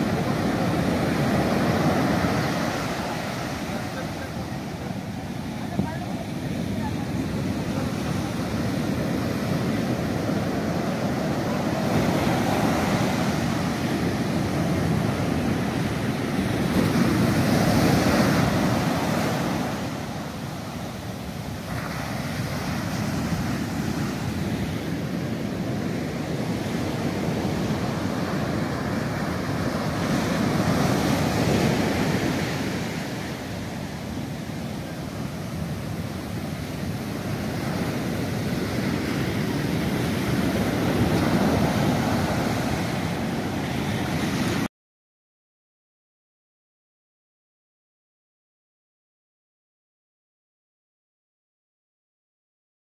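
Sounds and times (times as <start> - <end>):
surf breaking on beach: 0.0 - 44.7.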